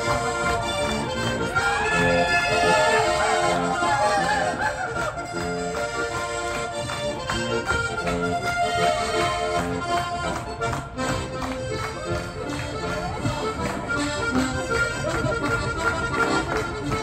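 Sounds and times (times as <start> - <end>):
button accordion folk tune: 0.0 - 17.0.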